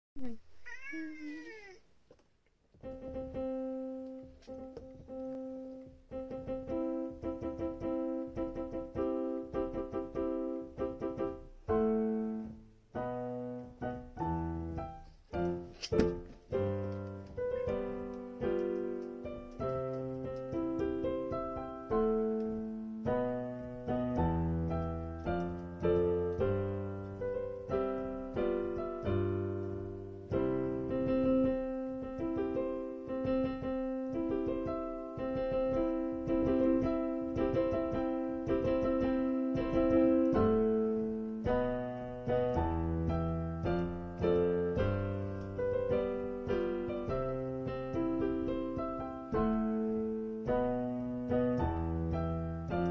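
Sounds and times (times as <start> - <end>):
solo piano march: 0.2 - 52.9.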